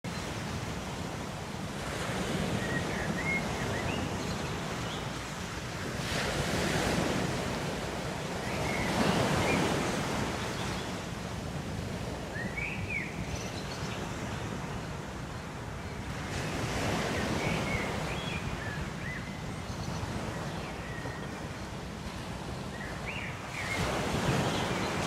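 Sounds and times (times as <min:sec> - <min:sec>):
ocean waves washing on shore: 0:00.0 - 0:25.0.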